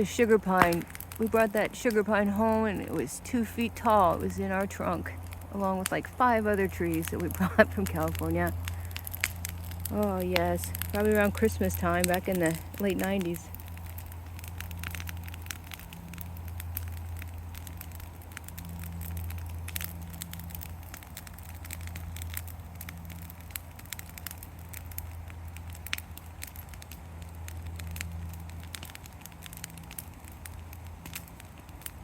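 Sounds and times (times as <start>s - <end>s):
bonfire crackling and popping: 0.0s - 32.0s
low steady rumble: 0.0s - 32.0s.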